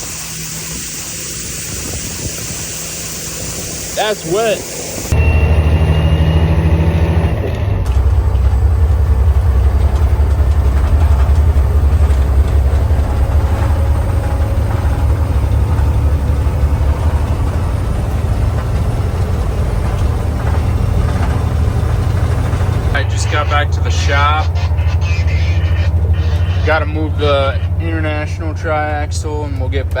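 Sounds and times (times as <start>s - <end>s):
truck engine rumbling: 0.0s - 30.0s.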